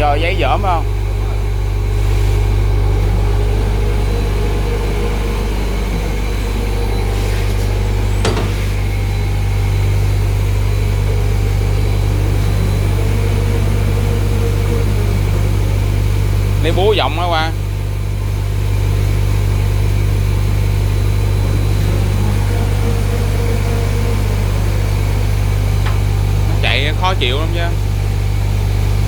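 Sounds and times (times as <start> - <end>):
machine humming and droning: 0.0 - 29.0.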